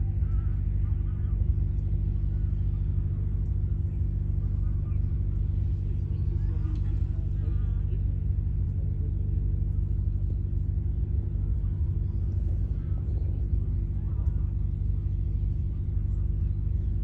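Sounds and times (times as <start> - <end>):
engine rumbling steadily: 0.0 - 17.0.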